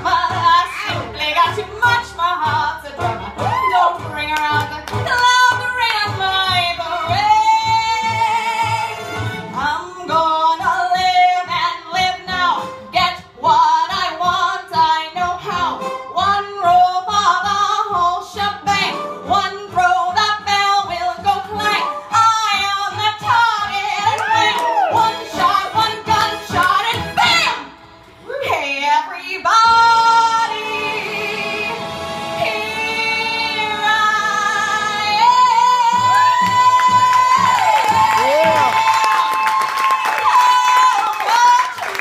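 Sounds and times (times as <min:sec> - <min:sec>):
woman singing: 0:00.0 - 0:42.0.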